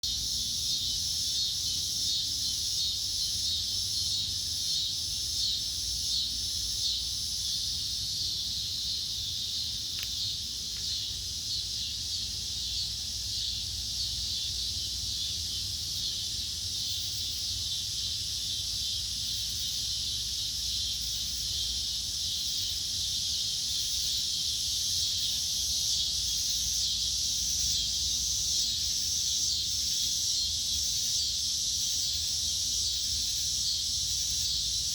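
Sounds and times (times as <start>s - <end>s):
insect chorus chirring: 0.0s - 34.9s
pulsing high insect layer: 0.0s - 34.9s.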